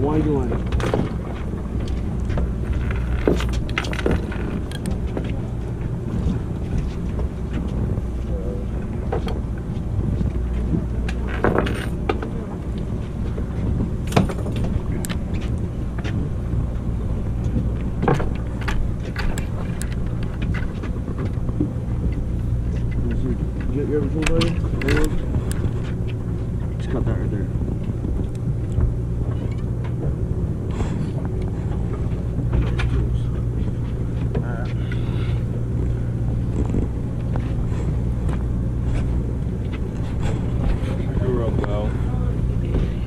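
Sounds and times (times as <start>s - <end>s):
boat engine rumbling: 0.0s - 43.0s.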